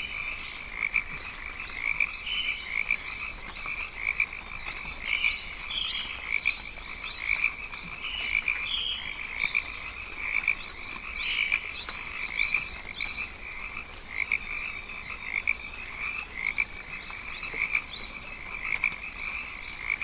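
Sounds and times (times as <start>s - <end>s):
frogs calling: 0.0s - 20.0s.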